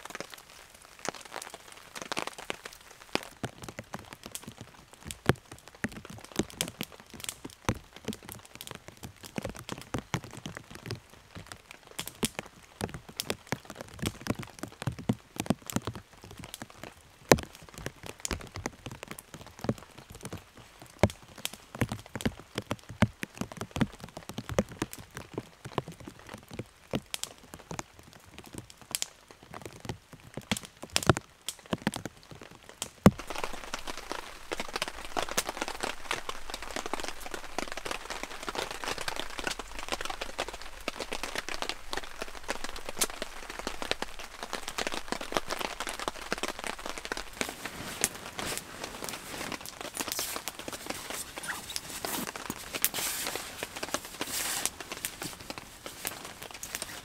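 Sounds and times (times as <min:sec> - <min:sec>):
rain drips and taps: 0:00.0 - 0:57.0
rain hissing in a forest: 0:00.0 - 0:57.0.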